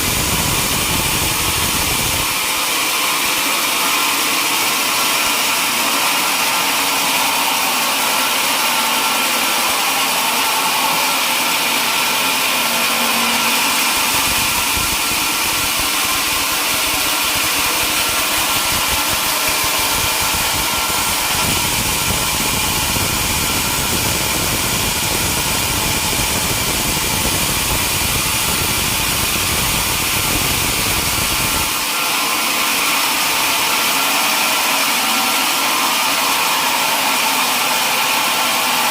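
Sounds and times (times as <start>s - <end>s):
saw cutting log rumble: 0.0s - 38.7s
sawmill hissing machine: 0.0s - 38.9s.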